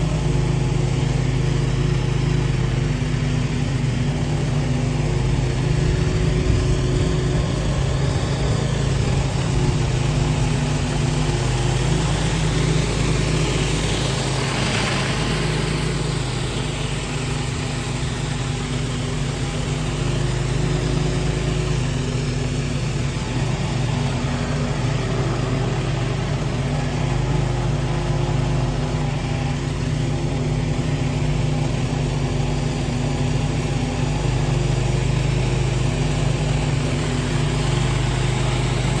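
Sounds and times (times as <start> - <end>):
small gasoline engine running: 0.0 - 39.0
water spray hissing on concrete: 0.0 - 39.0.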